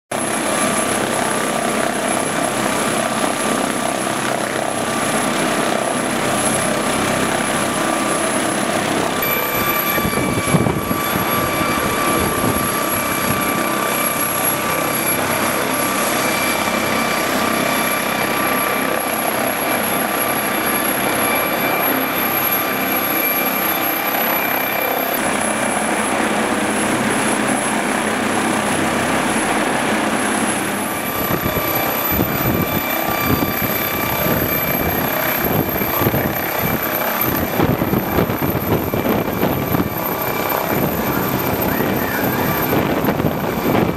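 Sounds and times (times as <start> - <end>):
helicopter high whine: 0.1 - 43.9
helicopter rotor rumble: 0.1 - 43.9.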